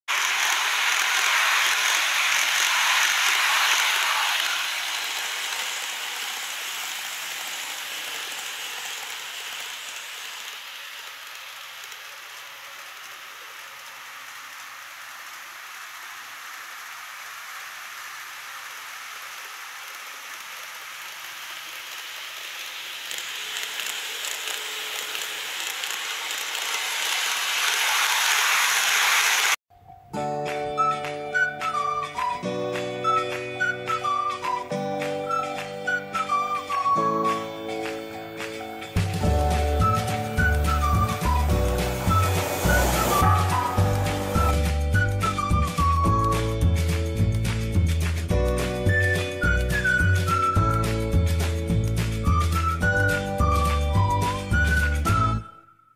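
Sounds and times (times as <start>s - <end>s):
model train wheels and motors: 0.0s - 29.6s, 30.8s - 55.5s.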